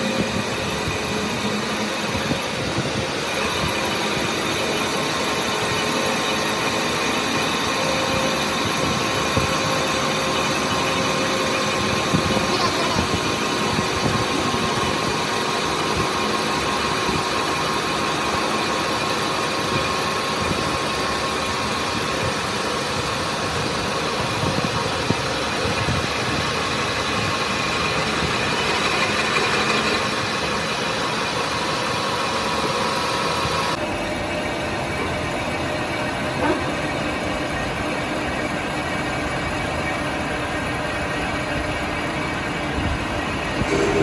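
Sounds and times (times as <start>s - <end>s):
machinery running: 0.0s - 44.0s.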